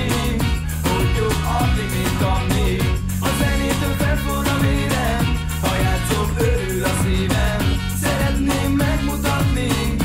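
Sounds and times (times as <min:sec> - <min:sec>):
dance-pop song: 0:00.0 - 0:10.0
electronic beat: 0:00.0 - 0:10.0
man singing: 0:00.0 - 0:10.0
synth bass: 0:00.0 - 0:10.0.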